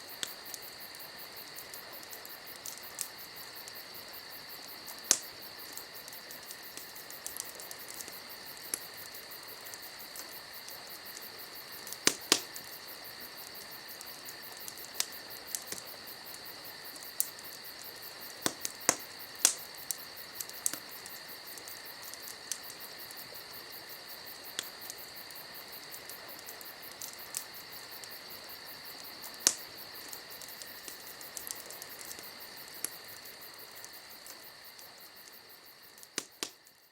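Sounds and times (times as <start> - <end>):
campfire crackling and popping: 0.0 - 36.9
crickets chirring: 0.0 - 36.9.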